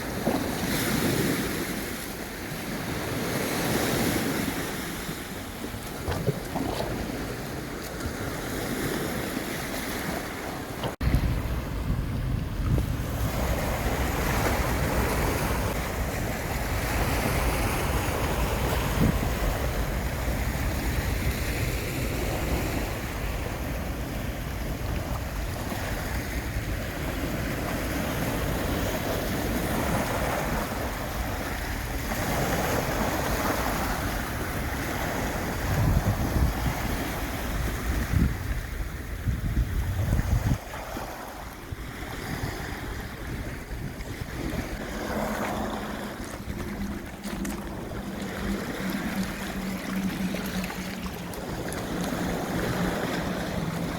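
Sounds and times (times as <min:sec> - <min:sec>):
sea waves washing: 0:00.0 - 0:53.9
wind rumbling on microphone: 0:00.0 - 0:53.9.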